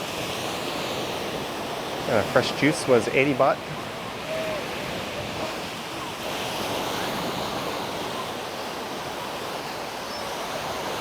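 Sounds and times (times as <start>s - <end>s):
surf washing on sandy beach: 0.0s - 11.0s.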